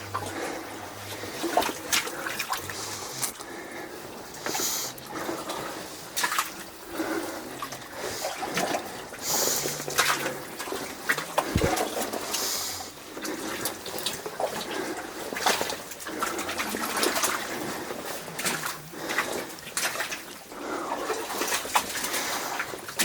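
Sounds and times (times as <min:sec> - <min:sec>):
wading through mud and water: 0:00.0 - 0:23.0.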